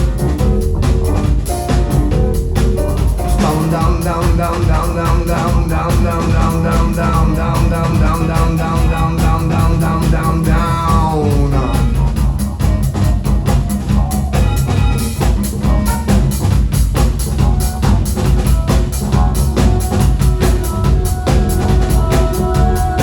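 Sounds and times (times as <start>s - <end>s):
drum kit beat: 0.0s - 23.0s
heavy bass: 0.0s - 23.0s
sustained held tones: 0.0s - 23.0s.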